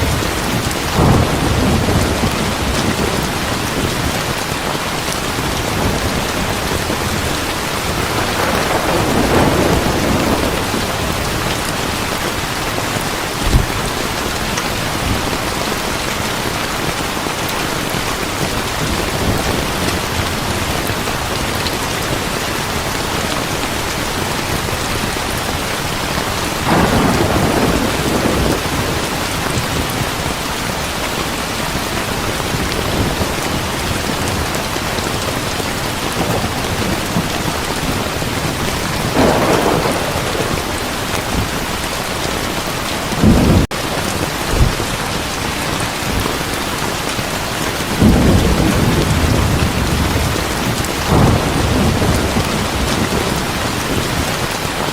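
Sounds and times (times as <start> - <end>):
thunder rumbling: 0.0 - 30.8, 31.6 - 46.6, 47.4 - 54.8
heavy rain pouring: 0.0 - 54.9.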